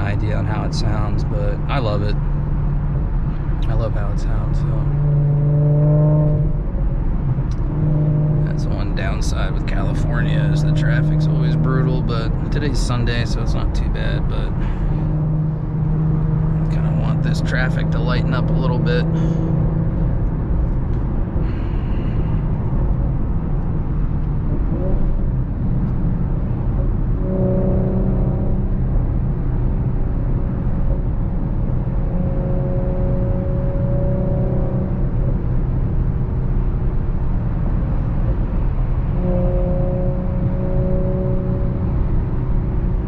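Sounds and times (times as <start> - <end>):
car engine and exhaust drone: 0.0 - 43.0
road rumble: 0.0 - 43.0.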